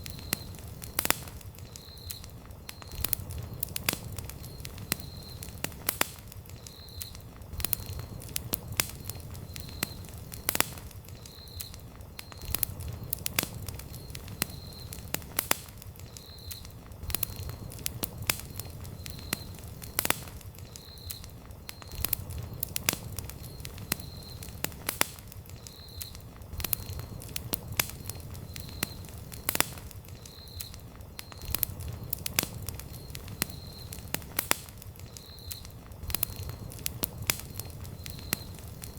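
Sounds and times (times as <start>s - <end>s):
campfire crackling and popping: 0.0s - 38.9s
low rumble of flames: 0.0s - 38.9s.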